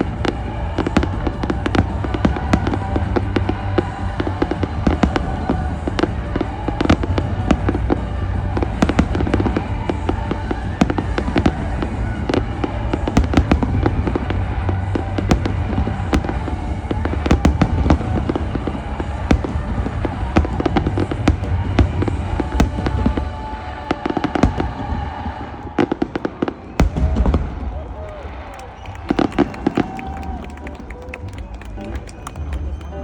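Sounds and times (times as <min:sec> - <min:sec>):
fireworks bangs and crackling: 0:00.0 - 0:33.0
music playing: 0:00.0 - 0:33.0.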